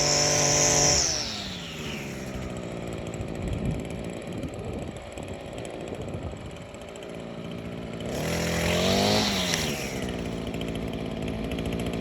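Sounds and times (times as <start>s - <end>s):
string trimmer engine idling: 0.0s - 12.0s.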